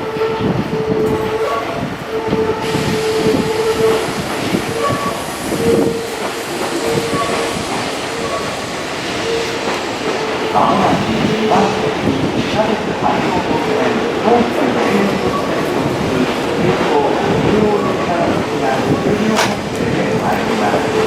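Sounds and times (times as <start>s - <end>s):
train rumbling over track: 0.0s - 21.0s.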